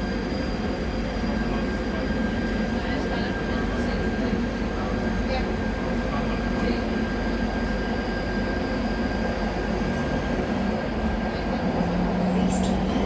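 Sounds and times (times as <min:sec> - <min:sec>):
light-rail car rumble: 0:00.0 - 0:13.0.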